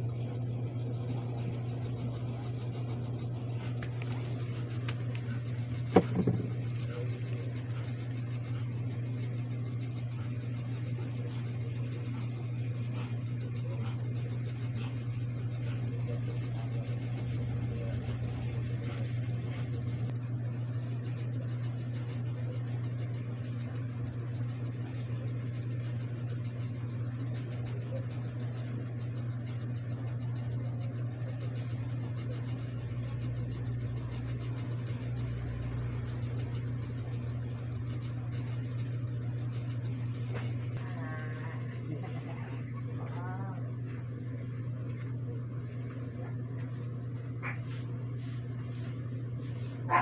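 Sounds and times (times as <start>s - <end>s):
low hum: 0.0s - 50.0s.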